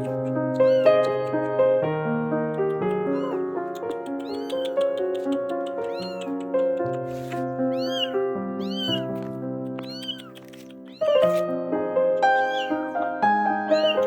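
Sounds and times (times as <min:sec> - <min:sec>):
cat meowing: 0:00.0 - 0:01.8, 0:02.4 - 0:14.0
background music with held notes: 0:00.0 - 0:14.0.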